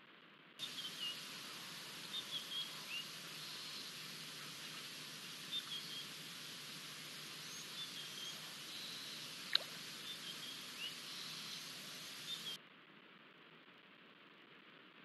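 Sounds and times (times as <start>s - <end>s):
faint hiss: 0.6s - 15.0s.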